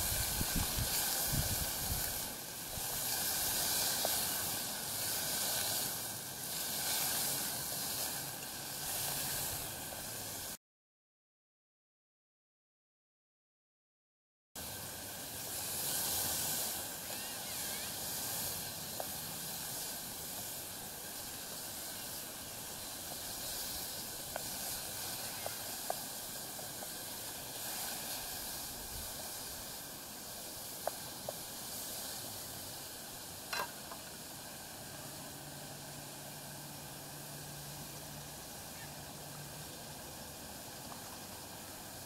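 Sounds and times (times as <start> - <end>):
campfire hissing: 0.0 - 10.6, 14.6 - 42.0
fire crackles and pops: 0.0 - 10.6, 14.6 - 42.0.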